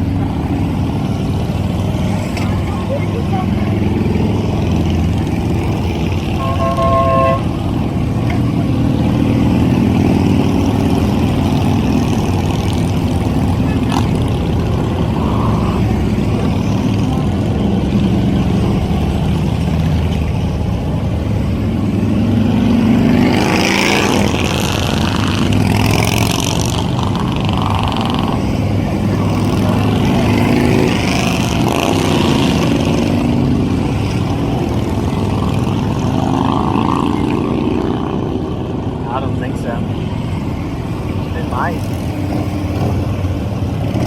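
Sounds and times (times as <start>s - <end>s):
motorcycle engine revving: 0.0s - 44.0s
motorcycle engines running: 0.0s - 44.0s.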